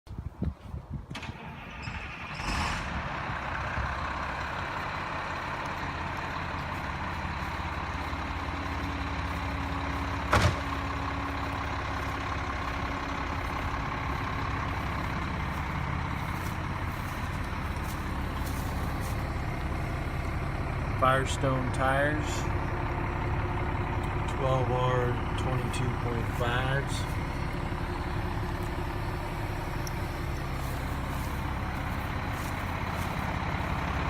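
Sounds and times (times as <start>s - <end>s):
diesel engine idling: 1.1s - 34.0s.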